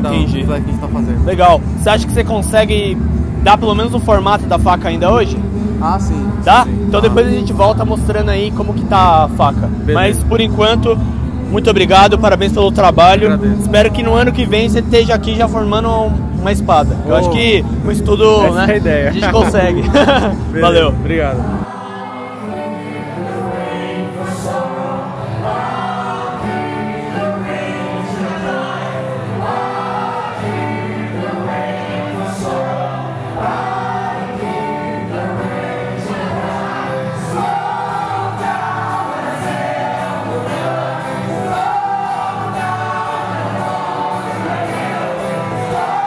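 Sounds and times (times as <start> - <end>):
acoustic guitars: 0.0 - 46.0
voices singing held notes: 3.2 - 46.0.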